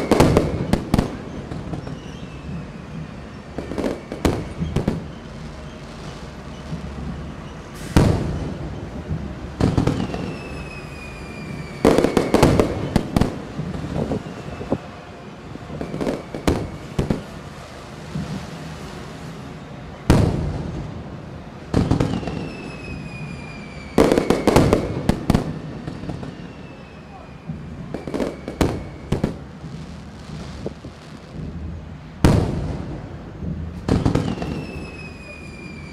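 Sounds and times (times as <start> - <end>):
falling firework whistles: 0.0 - 21.0, 21.7 - 31.5, 32.2 - 35.9
firework booms and crackles: 0.0 - 35.9.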